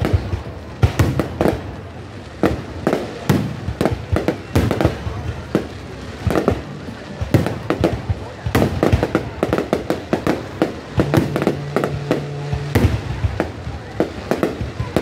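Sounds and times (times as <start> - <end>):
fireworks launching and bursting: 0.0 - 15.0.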